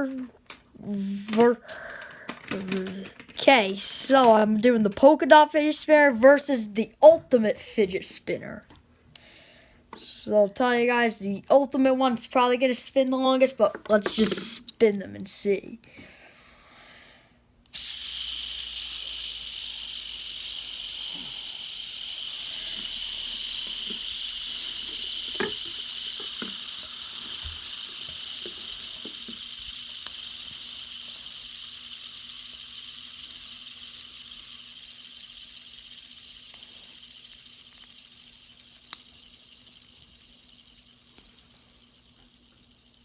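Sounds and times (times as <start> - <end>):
fidget spinner bearing whirring: 0.9 - 1.7, 2.3 - 8.3, 11.7 - 15.0, 17.7 - 43.0.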